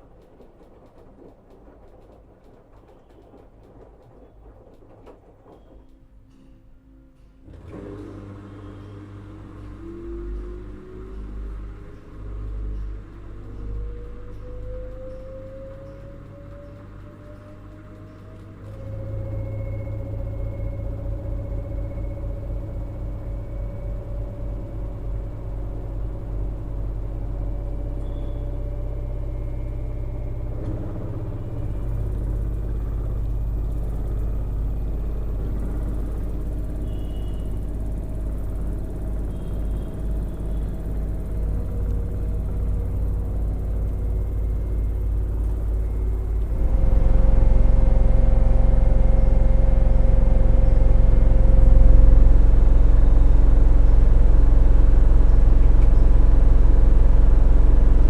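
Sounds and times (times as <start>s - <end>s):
faint motor whine: 0.0s - 58.0s
washing machine spinning: 0.0s - 58.0s.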